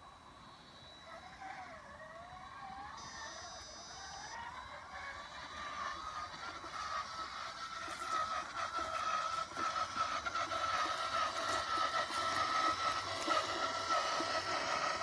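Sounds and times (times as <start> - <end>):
robotic lawn mower motors whining: 0.0 - 15.0.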